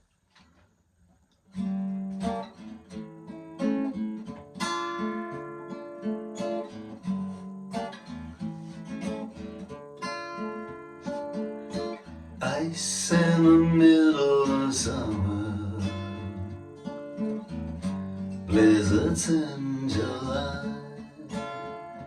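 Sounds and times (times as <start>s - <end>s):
acoustic guitar strumming chords: 1.6s - 22.0s.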